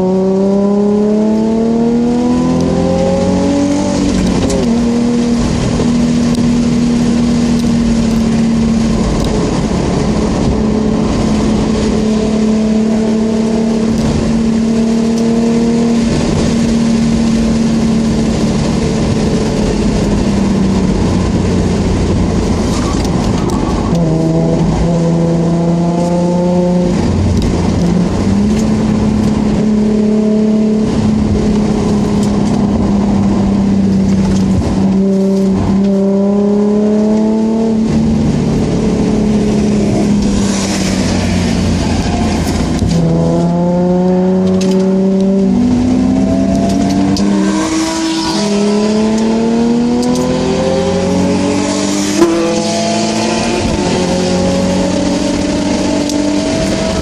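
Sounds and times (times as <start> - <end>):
car engine revving and shifting: 0.0 - 57.0.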